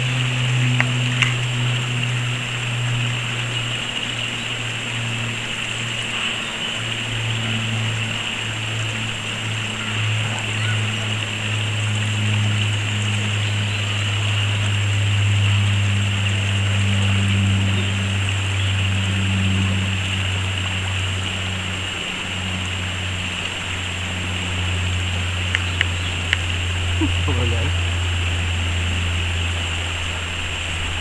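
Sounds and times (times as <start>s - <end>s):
flowing water rushing: 0.0s - 31.0s
low even drone: 0.0s - 31.0s.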